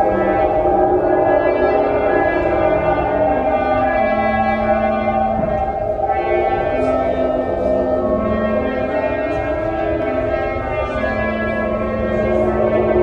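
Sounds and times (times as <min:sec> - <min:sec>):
whirly tubes whistling: 0:00.0 - 0:12.9
concert band holding low notes: 0:00.0 - 0:13.0.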